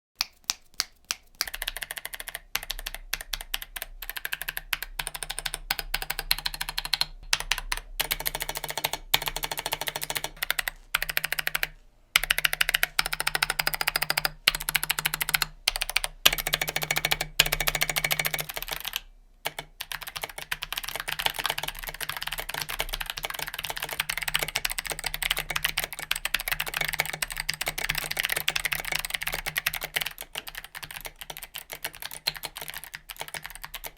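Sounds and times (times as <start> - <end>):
mechanical keyboard typing: 0.3 - 33.9.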